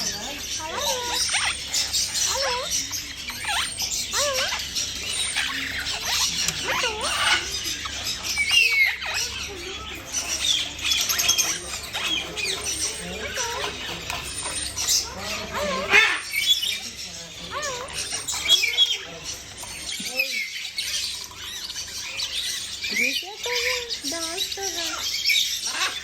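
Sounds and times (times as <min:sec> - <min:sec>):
caged birds chirping and squawking: 0:00.0 - 0:26.0.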